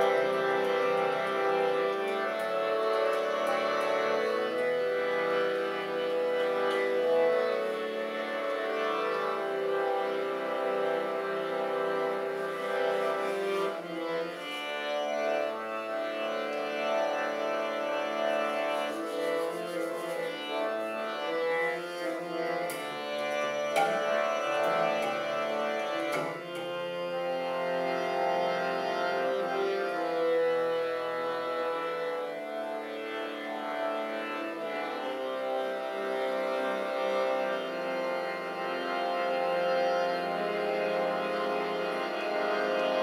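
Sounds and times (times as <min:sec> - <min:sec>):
harmonium sustained chords: 0:00.0 - 0:43.0.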